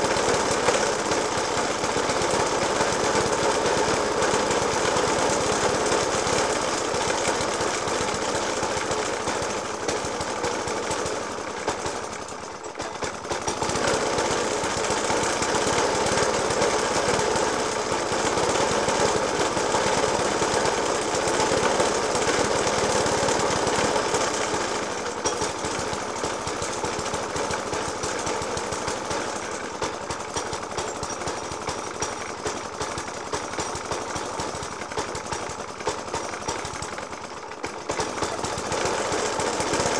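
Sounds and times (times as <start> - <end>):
lawnmower engine idling roughly: 0.0 - 39.9.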